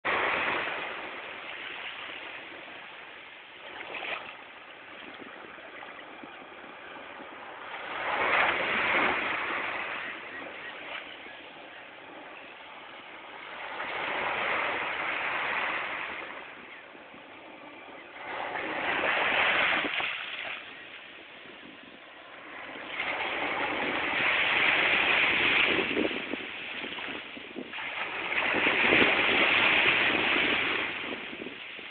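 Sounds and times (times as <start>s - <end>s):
sea waves breaking on shore: 0.0s - 31.9s.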